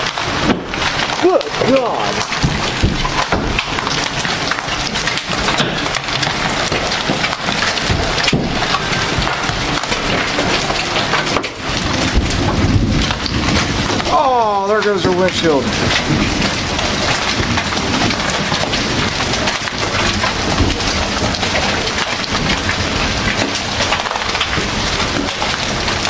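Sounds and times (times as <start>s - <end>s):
hailstones clattering: 0.0s - 26.0s
heavy rain hissing: 0.0s - 26.0s.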